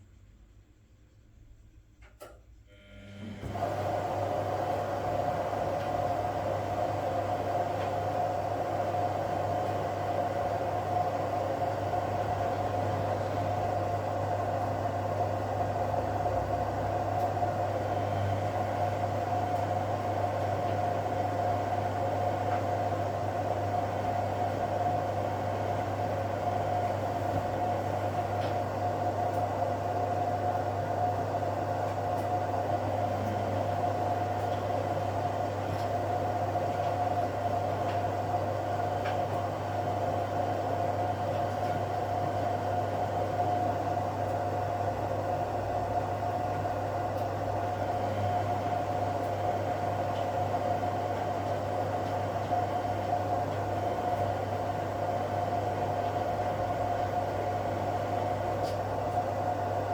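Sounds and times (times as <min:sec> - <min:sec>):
washing machines humming: 0:01.4 - 0:59.9.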